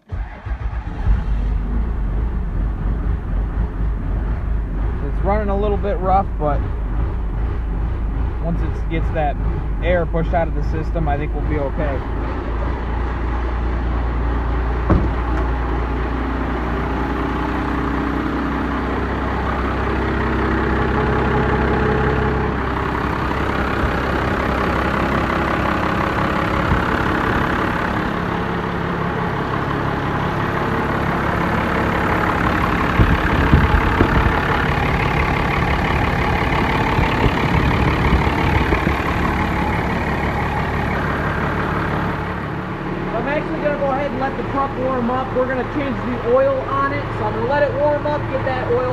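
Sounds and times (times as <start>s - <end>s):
diesel engine idling rough: 0.0s - 48.9s.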